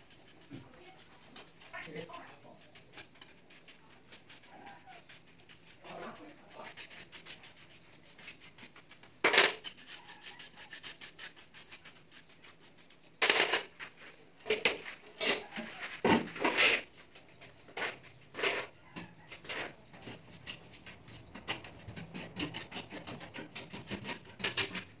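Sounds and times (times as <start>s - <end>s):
trowel scraping mortar: 0.0s - 25.0s.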